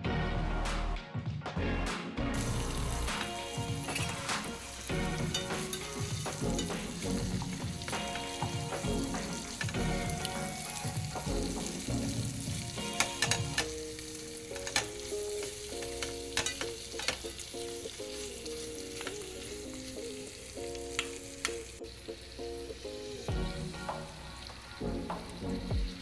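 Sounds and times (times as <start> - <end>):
light background music: 0.0 - 26.0
gravy sizzling in a pan: 2.4 - 26.0.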